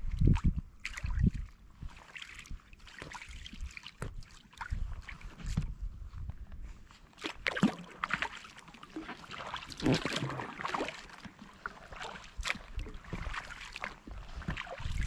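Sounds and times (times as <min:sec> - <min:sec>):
paddle splashing in water: 0:00.8 - 0:05.6, 0:07.2 - 0:15.0.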